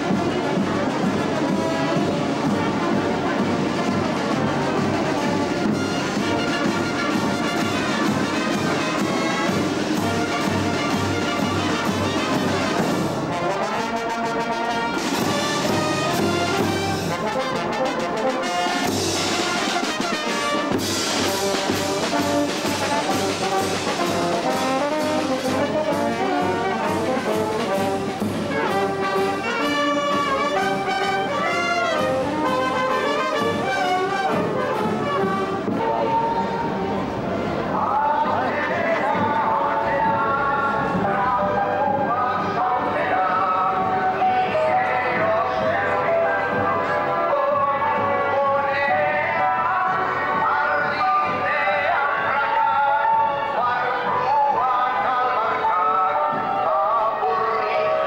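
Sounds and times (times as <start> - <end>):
brass band playing lively tune: 0.0 - 58.0.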